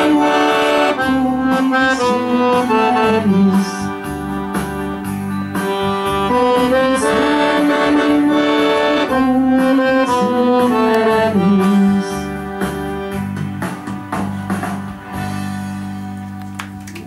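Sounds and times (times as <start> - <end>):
accordion playing held notes: 0.0 - 14.9
steady bass beat: 0.0 - 15.8.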